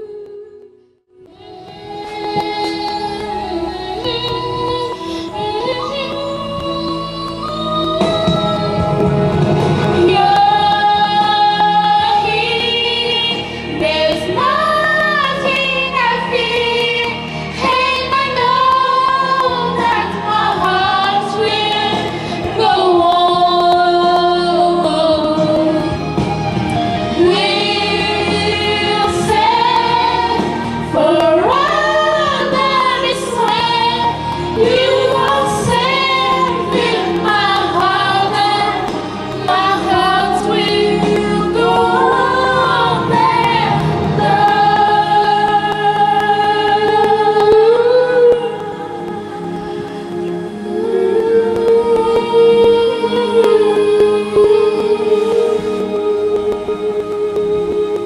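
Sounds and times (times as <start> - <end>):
woman singing with music: 0.0 - 58.0.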